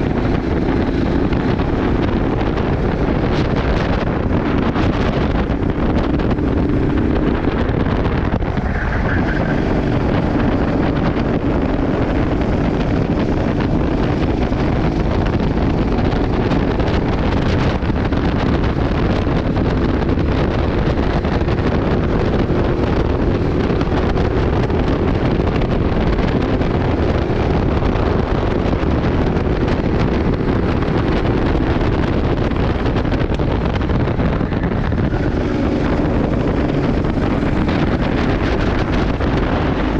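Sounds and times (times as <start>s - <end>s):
go-kart engine running: 0.0s - 39.9s
wind noise on microphone: 0.0s - 39.9s.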